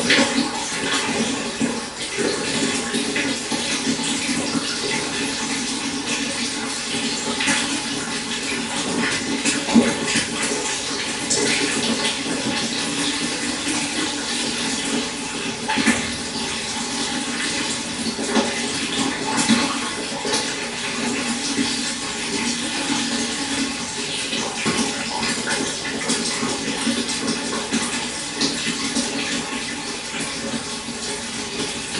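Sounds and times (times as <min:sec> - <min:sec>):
water splashes: 0:00.0 - 0:31.9.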